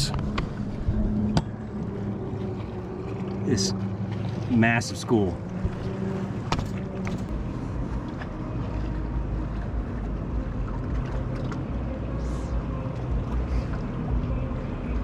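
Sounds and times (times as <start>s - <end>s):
wind rumble on microphone: 0.0s - 4.6s, 5.4s - 15.0s.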